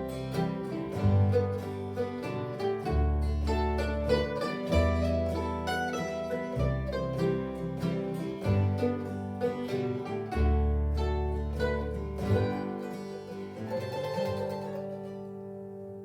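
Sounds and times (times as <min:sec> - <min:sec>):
acoustic guitar: 0:00.0 - 0:16.0
bass: 0:00.0 - 0:16.0
mandolin: 0:00.0 - 0:16.0.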